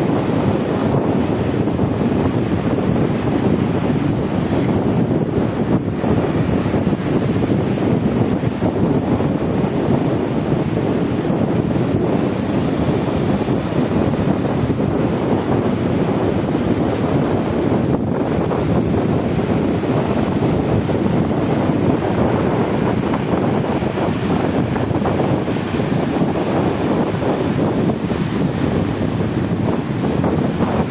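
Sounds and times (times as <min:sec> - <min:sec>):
sea rushing: 0:00.0 - 0:30.9
wind buffeting microphone: 0:00.0 - 0:30.9.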